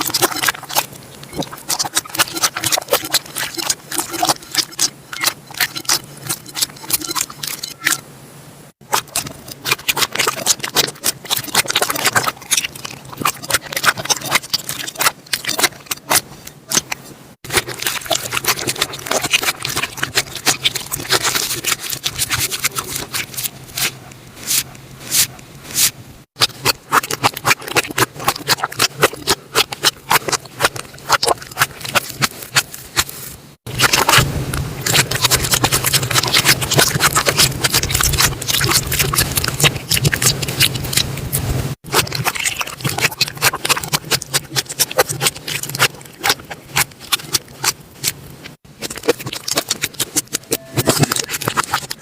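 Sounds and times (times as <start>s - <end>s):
slime squelching with sticky pops: 0.0s - 8.0s, 8.8s - 52.0s.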